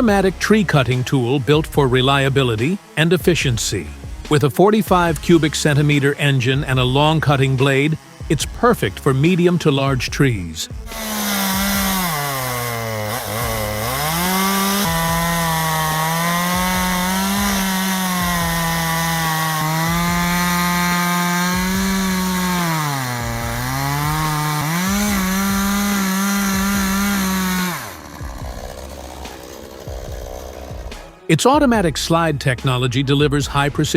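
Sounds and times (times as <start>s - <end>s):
chainsaw cutting wood: 0.0s - 31.3s.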